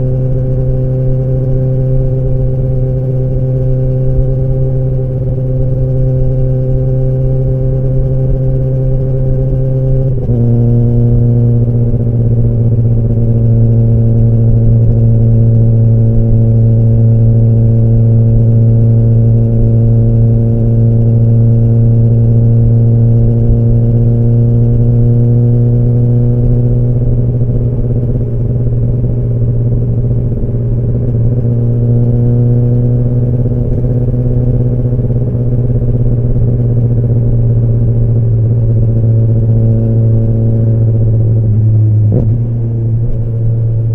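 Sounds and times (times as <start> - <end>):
motorcycle engine running steadily: 0.0 - 43.9.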